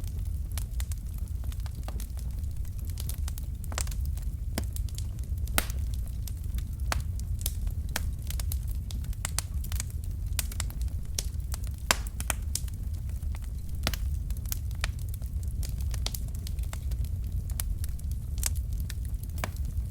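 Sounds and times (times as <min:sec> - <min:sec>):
logs crackling and popping: 0:00.0 - 0:19.9
low rumble of flames: 0:00.0 - 0:19.9.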